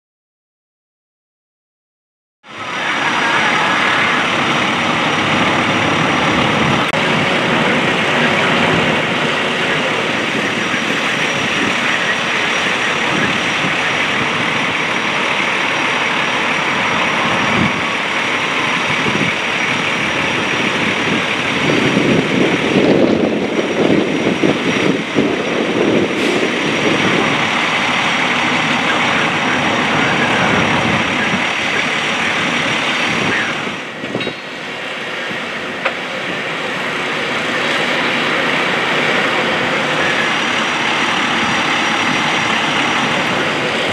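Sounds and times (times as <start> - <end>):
fire engine running: 2.4 - 43.9.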